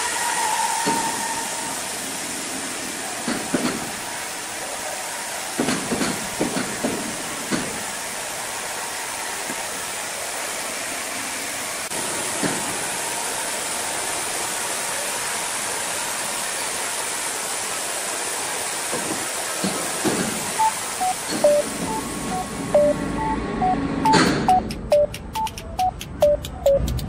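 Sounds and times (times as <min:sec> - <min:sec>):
sawmill machinery humming: 0:00.0 - 0:26.2.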